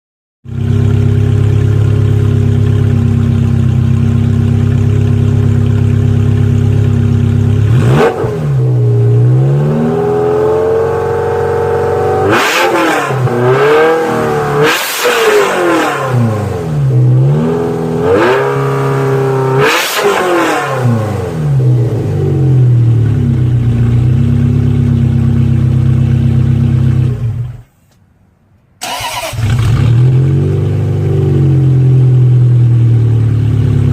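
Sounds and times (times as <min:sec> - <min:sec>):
car engine idling and revving: 0:00.4 - 0:28.0, 0:28.8 - 0:33.9.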